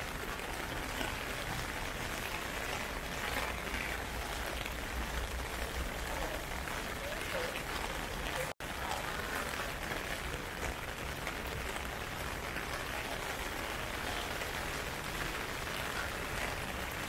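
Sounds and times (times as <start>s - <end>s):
heavy rain splashing: 0.0s - 17.0s.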